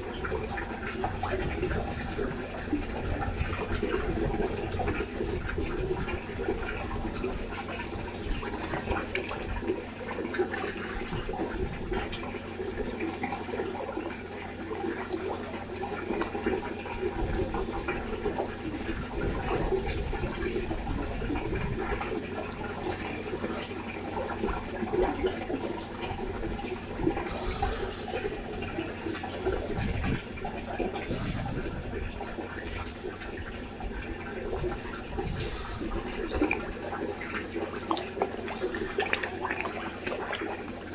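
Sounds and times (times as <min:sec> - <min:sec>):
fish slurping at water surface: 0:00.0 - 0:40.9
water splashing and gurgling: 0:00.0 - 0:40.9.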